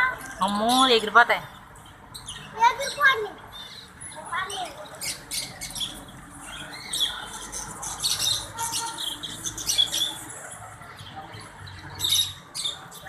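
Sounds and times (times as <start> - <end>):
small birds chirping and squawking: 0.0 - 13.0.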